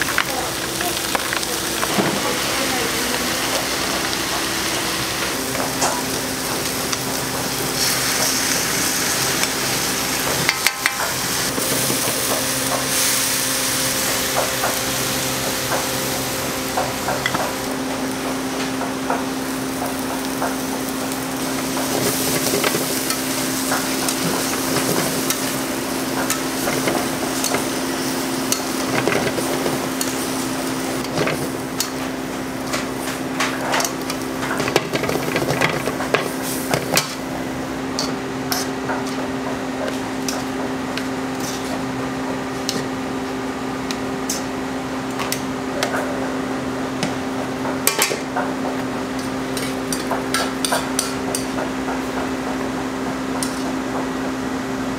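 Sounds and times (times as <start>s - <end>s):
bean sprouts sizzling in a wok: 0.0s - 54.9s.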